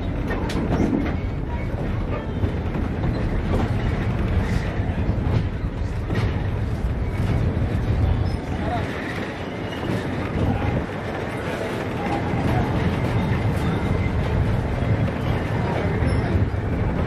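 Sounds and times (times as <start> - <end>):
train rumbling with wheel clicks: 0.0 - 17.0.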